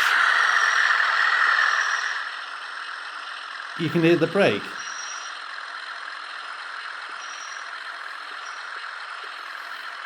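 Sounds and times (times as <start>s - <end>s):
diesel engine sound from small speaker: 0.0s - 10.0s.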